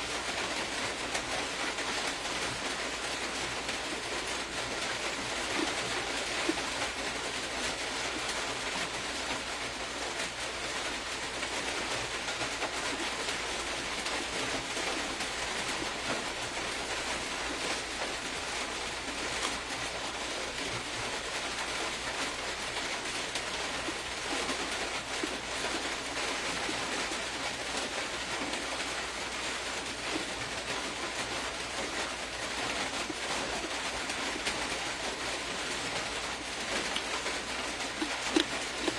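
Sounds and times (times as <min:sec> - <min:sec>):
steady hissing noise: 0:00.0 - 0:38.9.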